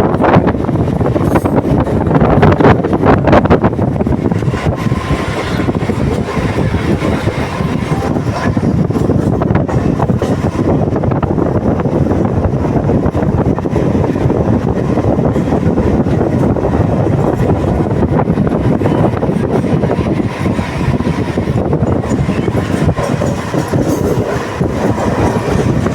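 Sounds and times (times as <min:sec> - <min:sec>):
train rumbling along track: 0:00.0 - 0:25.9.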